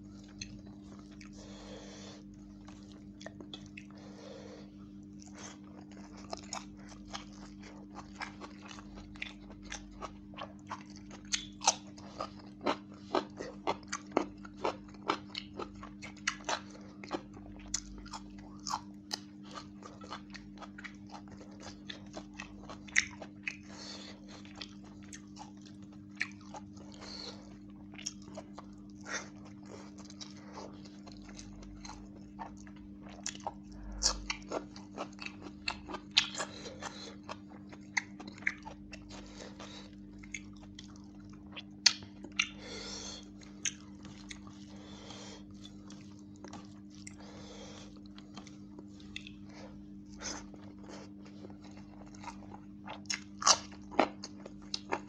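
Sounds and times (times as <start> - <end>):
man chewing and mouth smacking: 0.0 - 4.1, 5.0 - 55.0
steady low hum: 0.0 - 55.0.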